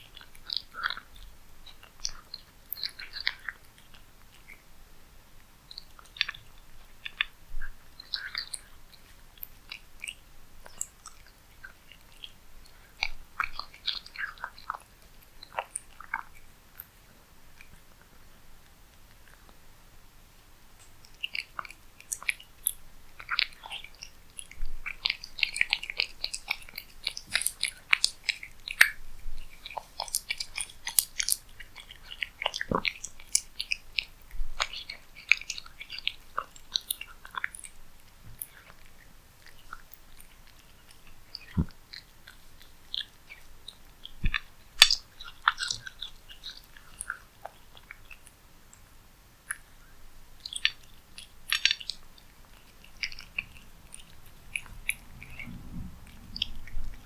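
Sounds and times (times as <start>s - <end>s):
cat chewing food: 0.0s - 57.0s.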